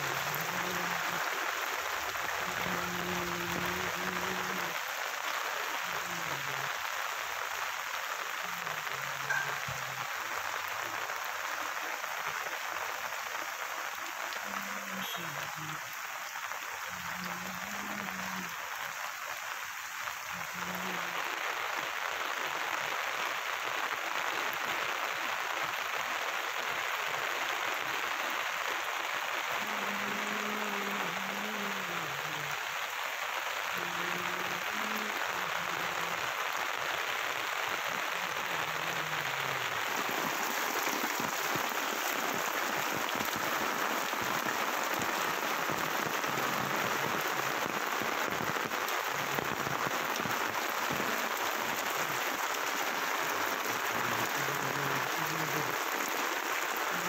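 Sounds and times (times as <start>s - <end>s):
heavy rain on water: 0.0s - 57.0s.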